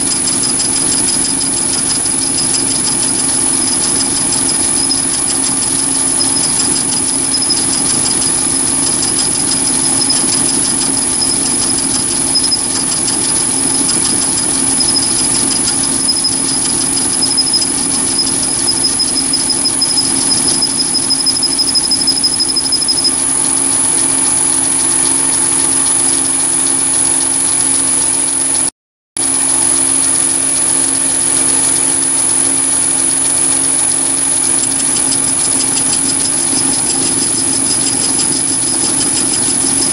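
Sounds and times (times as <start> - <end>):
lathe motor humming and whining: 0.0 - 28.6, 29.4 - 39.9.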